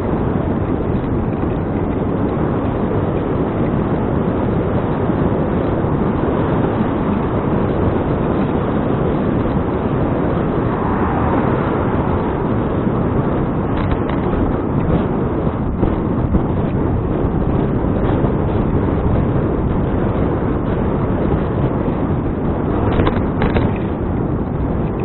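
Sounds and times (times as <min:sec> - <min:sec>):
low rumble of riding: 0:00.0 - 0:25.0
wind rushing on microphone: 0:00.0 - 0:25.0.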